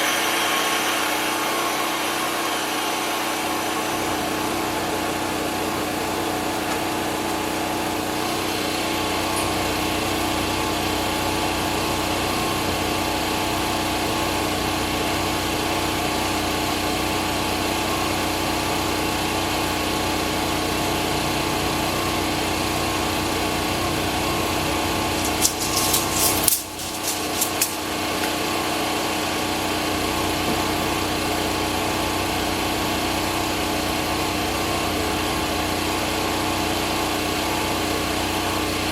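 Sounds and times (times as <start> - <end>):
band sawmill running: 0.0 - 38.8.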